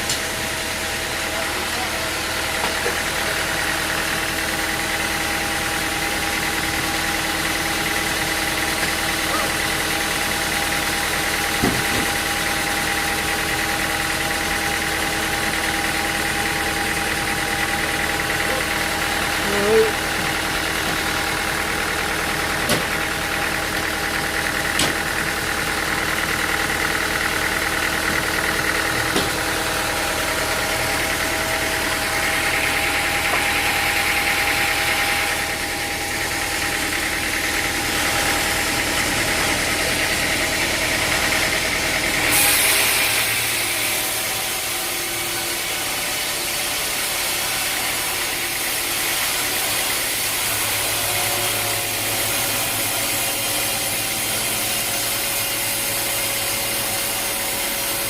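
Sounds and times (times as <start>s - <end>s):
sawmill machinery rumbling: 0.0s - 58.0s.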